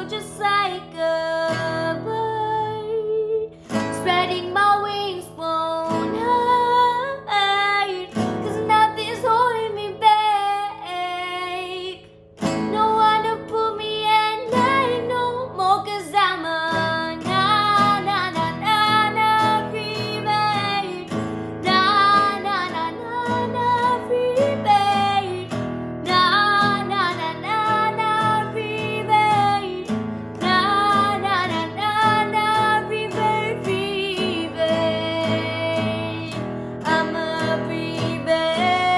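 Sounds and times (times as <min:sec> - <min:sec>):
woman singing: 0:00.0 - 0:38.9.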